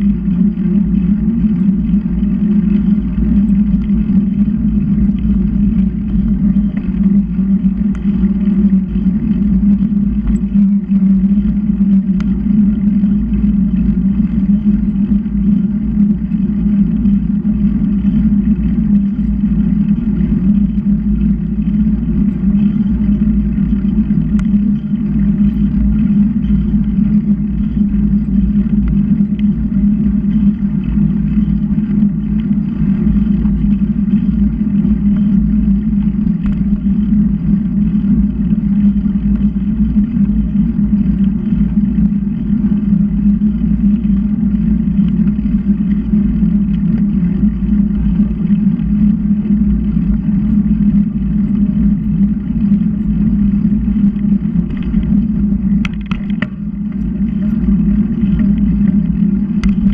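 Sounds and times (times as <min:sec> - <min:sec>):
bicycle road rumble: 0:00.0 - 0:59.9
wind on microphone: 0:00.0 - 0:59.9.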